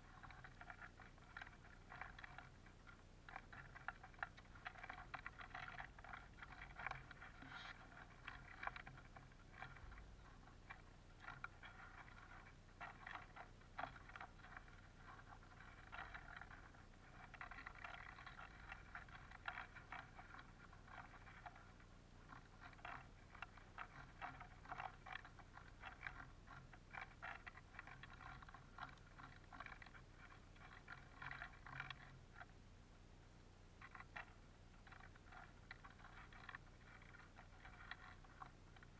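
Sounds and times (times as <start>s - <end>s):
birds pecking seeds in feeder: 0.0s - 38.9s.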